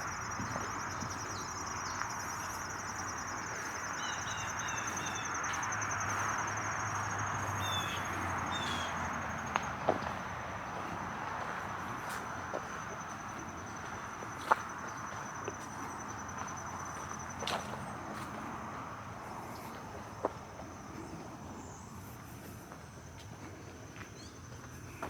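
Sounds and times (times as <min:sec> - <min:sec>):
cricket trilling: 0:00.0 - 0:23.2.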